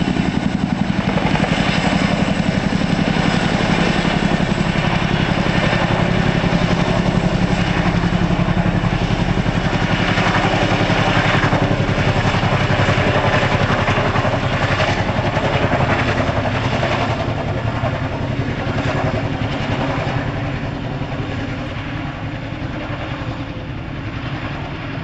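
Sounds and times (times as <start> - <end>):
helicopter engine noise: 0.0 - 25.0
helicopter rotor blades beating: 0.0 - 25.0.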